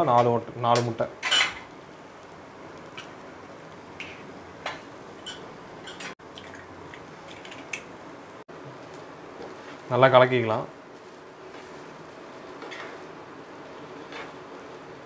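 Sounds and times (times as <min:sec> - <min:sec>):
frying hiss: 0:00.0 - 0:15.0.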